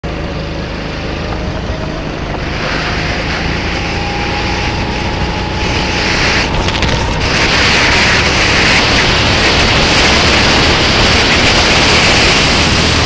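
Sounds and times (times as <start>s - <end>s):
kart engine running hard: 0.0s - 13.0s
wind and road noise: 0.0s - 13.0s.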